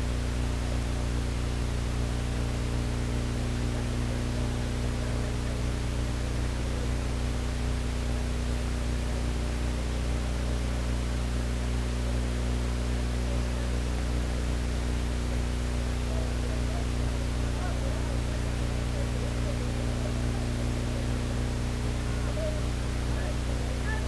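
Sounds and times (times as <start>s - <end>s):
electrical hum with low drones: 0.0s - 24.0s.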